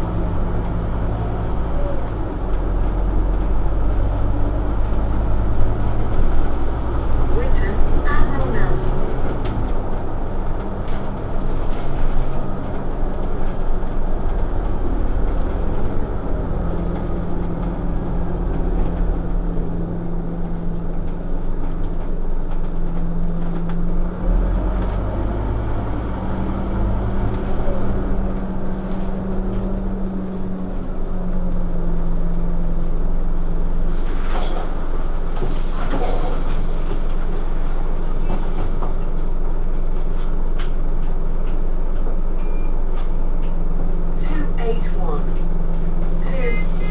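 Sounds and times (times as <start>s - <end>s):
bus engine running: 0.0s - 46.9s
road and body rumble: 0.0s - 46.9s.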